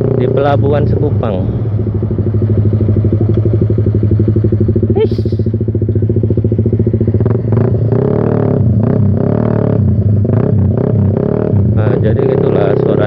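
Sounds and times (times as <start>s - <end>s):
motorcycle exhaust sputtering: 0.0s - 13.0s.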